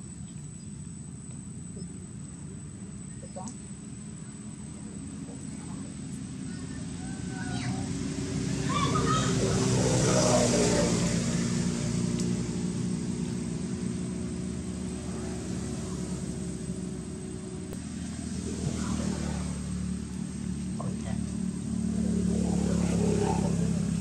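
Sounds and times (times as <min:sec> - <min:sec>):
motor vehicle engine running: 0:00.0 - 0:24.0.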